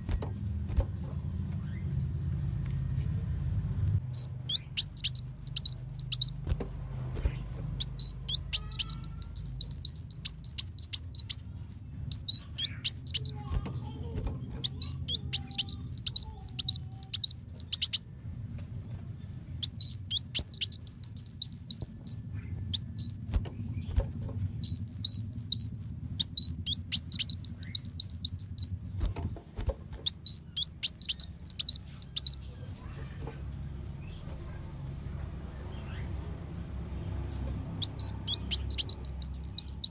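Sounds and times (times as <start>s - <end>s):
sunbird high-pitched chirps: 0.0s - 18.1s, 19.1s - 39.9s
faint low hum: 0.0s - 39.9s.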